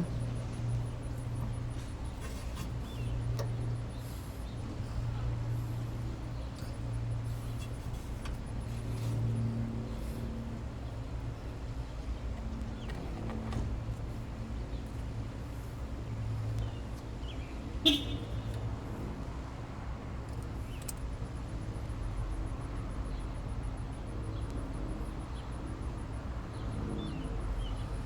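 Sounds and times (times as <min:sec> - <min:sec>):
distant traffic rumble: 0:00.0 - 0:28.0.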